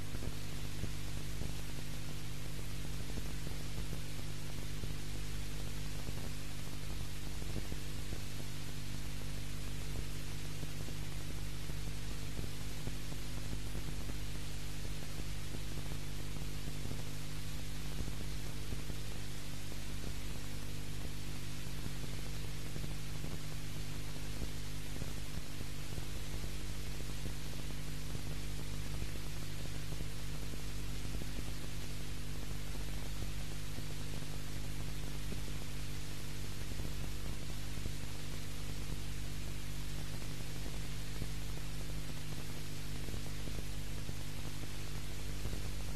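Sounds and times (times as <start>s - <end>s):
low electrical hum: 0.0s - 45.9s
steady hiss: 0.0s - 45.9s.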